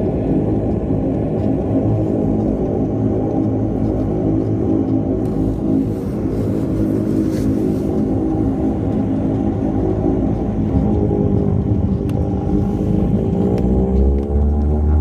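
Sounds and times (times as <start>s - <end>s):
turboprop engines droning: 0.0s - 15.0s
tyres rumbling on runway: 0.0s - 15.0s.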